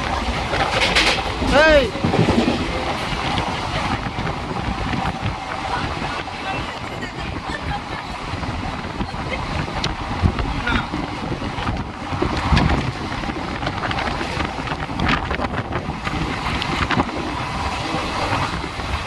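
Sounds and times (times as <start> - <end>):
train running rumble: 0.0 - 19.0
wind on microphone: 0.0 - 19.0.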